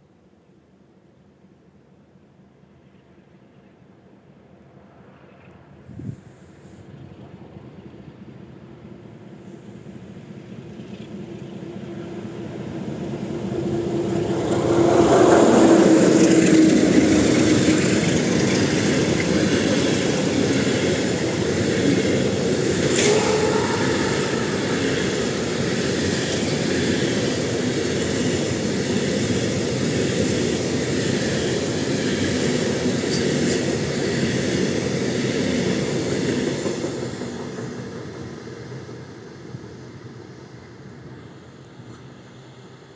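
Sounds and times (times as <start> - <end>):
diesel locomotive engine: 5.6 - 42.9.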